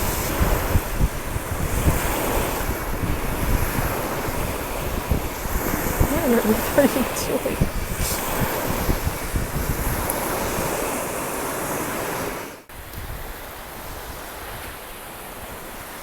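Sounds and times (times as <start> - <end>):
ocean surf washing on shore: 0.0 - 16.0
wind buffeting microphone: 0.0 - 16.0.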